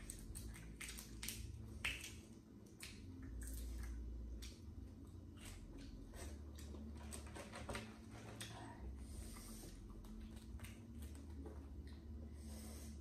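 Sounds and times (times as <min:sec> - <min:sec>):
wet squishing and chewing: 0:00.0 - 0:12.4.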